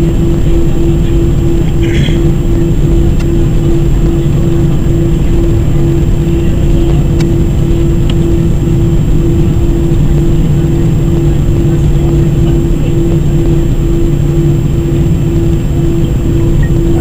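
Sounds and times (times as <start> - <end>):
jet engines idling in cabin: 0.0 - 17.0.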